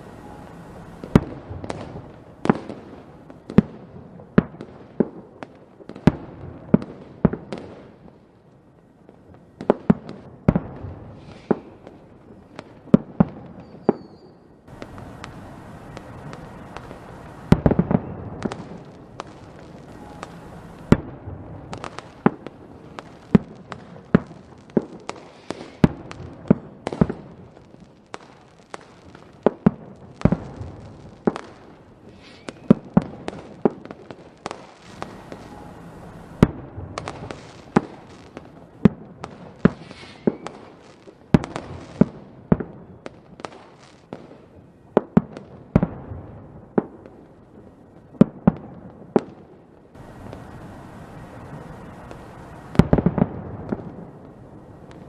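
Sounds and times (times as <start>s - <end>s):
fireworks bangs: 0.0s - 8.4s, 9.0s - 55.0s
fireworks crackling: 0.0s - 55.0s.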